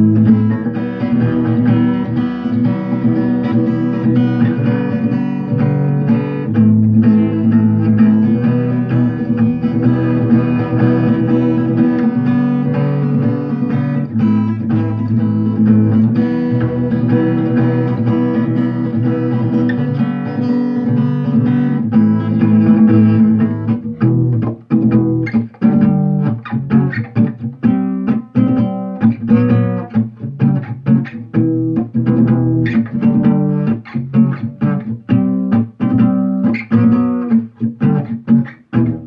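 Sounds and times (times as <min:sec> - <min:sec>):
acoustic guitar with percussive strokes: 0:00.0 - 0:39.0.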